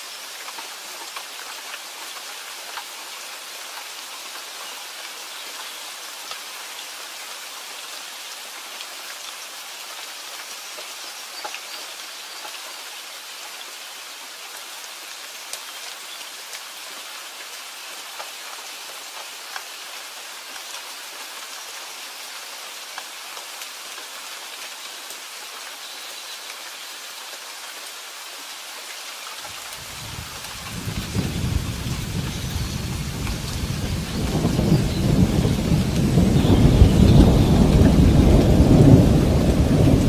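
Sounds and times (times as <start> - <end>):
raindrops ticking on a surface: 0.0 - 40.0
steady rain hiss: 0.0 - 40.0.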